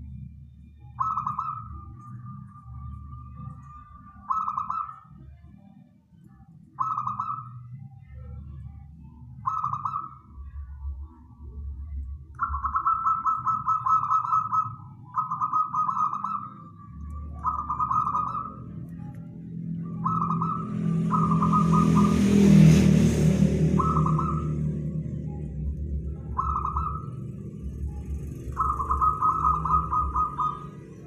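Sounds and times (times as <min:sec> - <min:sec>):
dove cooing trill: 0:00.0 - 0:05.6, 0:06.7 - 0:31.0.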